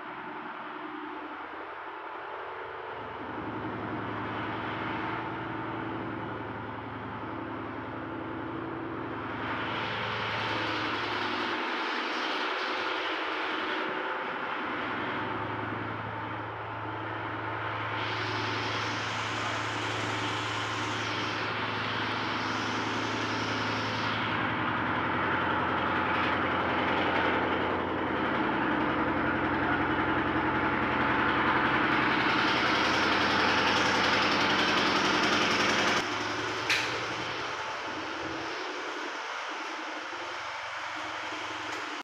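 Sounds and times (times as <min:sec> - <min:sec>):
pulsing machine drone: 0:00.0 - 0:42.0.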